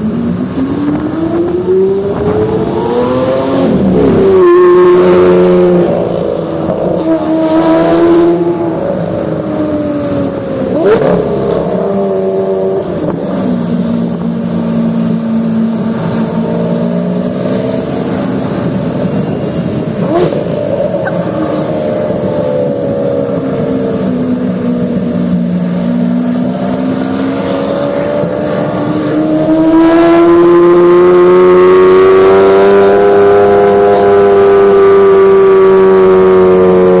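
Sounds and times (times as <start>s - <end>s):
sports car engine revving: 0.1s - 37.0s.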